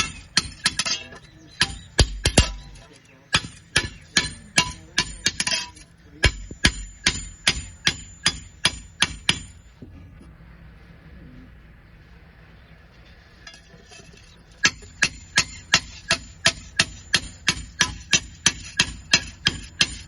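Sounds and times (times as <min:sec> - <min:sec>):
hammer striking iron: 0:00.0 - 0:09.7, 0:13.4 - 0:20.0.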